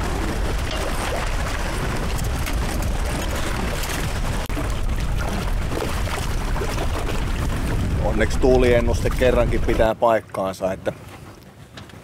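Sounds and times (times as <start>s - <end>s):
gusty wind on microphone: 0.0s - 9.9s
water splashing against hull: 0.0s - 12.0s.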